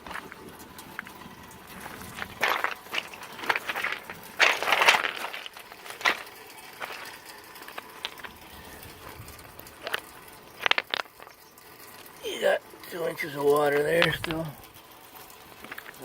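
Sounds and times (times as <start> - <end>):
footsteps crunching on wet ground: 0.0 - 12.2, 13.0 - 16.0.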